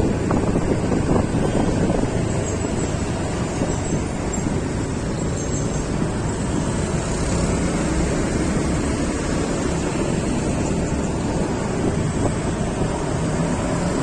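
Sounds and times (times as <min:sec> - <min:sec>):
road and engine noise: 0:00.0 - 0:14.0
wind rushing over microphone: 0:00.0 - 0:14.0.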